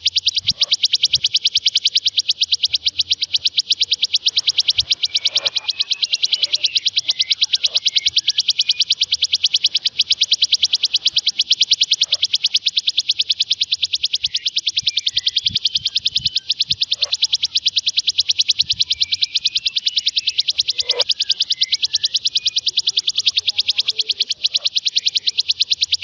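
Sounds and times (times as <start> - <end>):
bird trilling high notes: 0.0 - 26.0.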